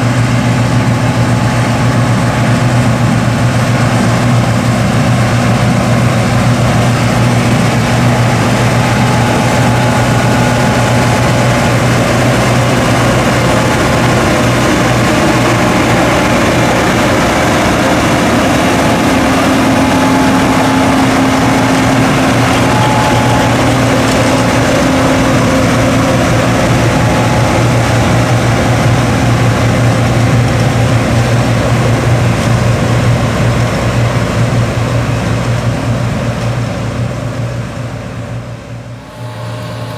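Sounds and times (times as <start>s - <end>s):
threshing machinery whirring: 0.0s - 35.1s
diesel engine humming: 0.0s - 39.9s.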